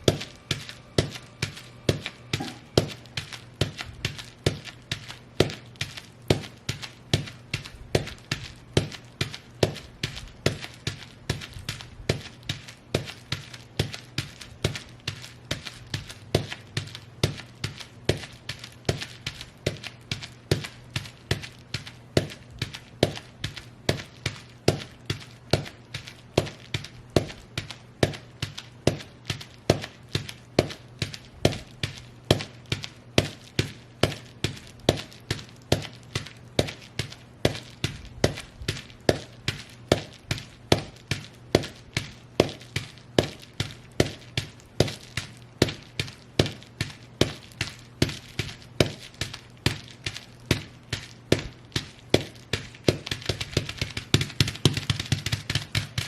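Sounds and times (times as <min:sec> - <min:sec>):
boots stomping on bubble wrap: 0:00.0 - 0:56.0.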